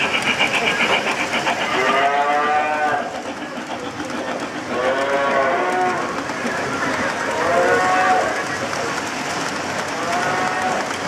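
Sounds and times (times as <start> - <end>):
model train rolling rumble: 0.0 - 11.0.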